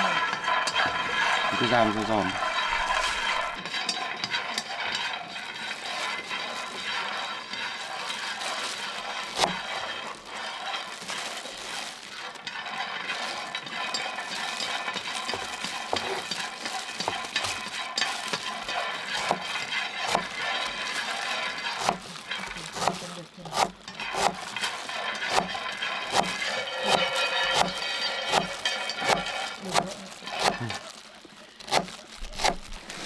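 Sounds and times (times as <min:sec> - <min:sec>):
food sizzling in a pan: 0:00.0 - 0:33.0
spatula scraping a pan: 0:00.0 - 0:33.0.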